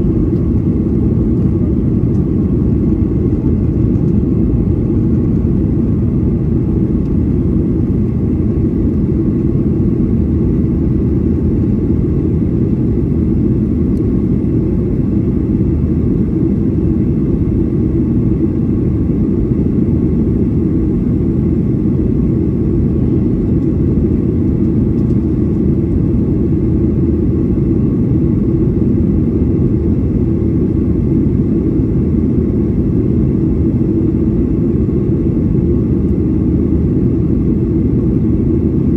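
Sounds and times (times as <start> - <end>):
airplane cabin rumble: 0.0 - 38.9
faint hum: 0.0 - 38.9.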